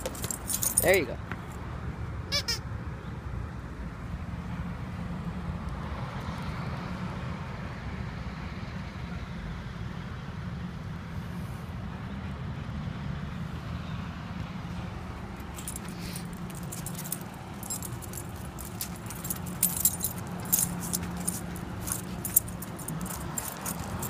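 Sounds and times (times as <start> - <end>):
low rumble of city traffic: 0.0 - 24.0.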